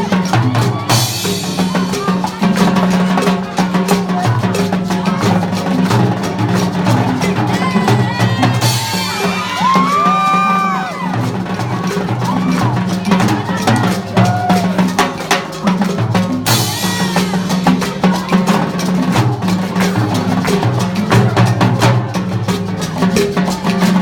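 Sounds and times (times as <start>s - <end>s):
drum kit beat: 0.0s - 24.0s
jazz band playing: 0.0s - 24.0s.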